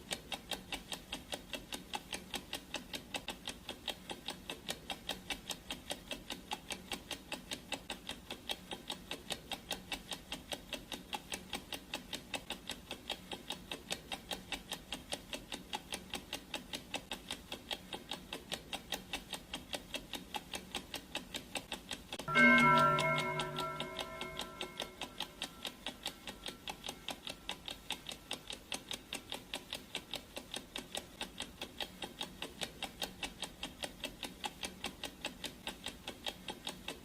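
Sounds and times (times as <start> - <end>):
fast clock ticking: 0.0 - 37.0.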